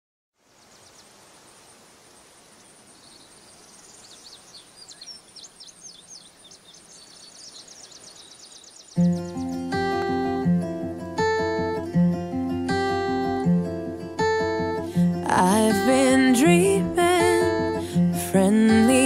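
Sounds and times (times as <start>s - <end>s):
faint outdoor air hiss: 0.4s - 19.0s
songbirds chirping and trilling: 0.4s - 19.0s.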